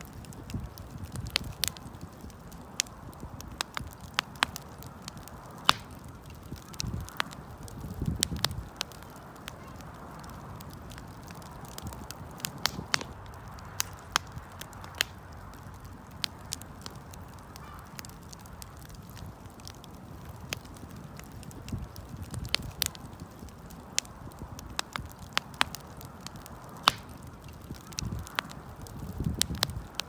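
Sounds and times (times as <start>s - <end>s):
fire crackles and pops: 0.0s - 30.0s
low rush of flames: 0.0s - 30.0s.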